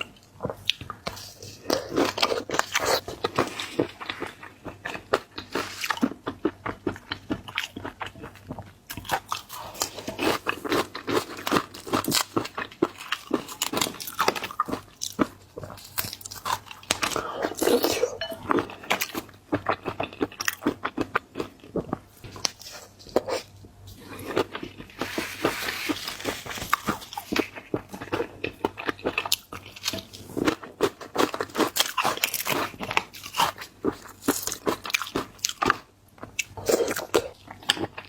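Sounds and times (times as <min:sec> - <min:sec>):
crunching and chewing: 0:00.0 - 0:38.0.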